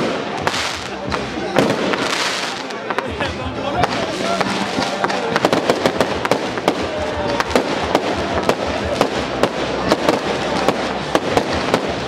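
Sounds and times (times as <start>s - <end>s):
firework crackle: 0.0s - 12.0s.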